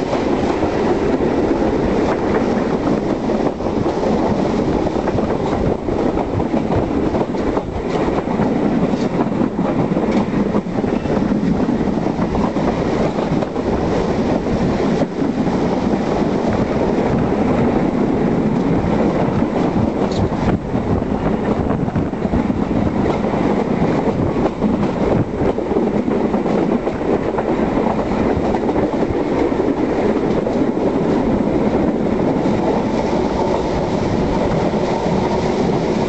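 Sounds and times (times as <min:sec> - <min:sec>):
rushing air: 0:00.0 - 0:36.0
train wheels rumbling on rails: 0:00.0 - 0:36.0.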